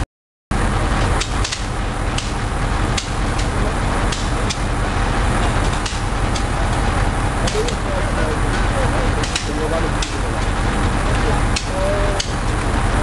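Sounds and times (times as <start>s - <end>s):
loud steady rushing noise: 0.5s - 13.0s.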